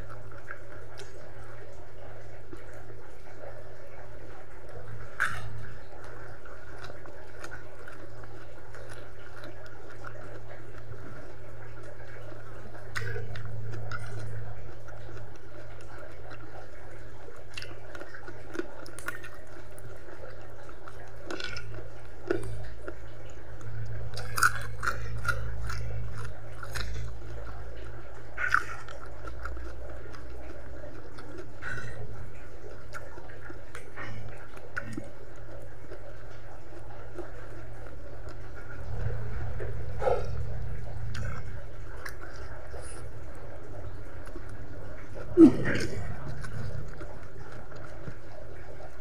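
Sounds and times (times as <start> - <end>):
low hum: 0.0 - 17.4, 19.4 - 49.0
chewing and wet mouth smacks: 0.0 - 49.0.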